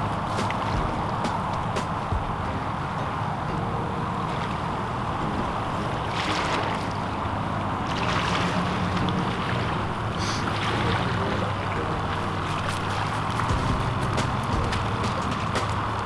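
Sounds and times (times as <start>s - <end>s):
surf at the shore: 0.0s - 16.0s
wind: 0.0s - 16.0s.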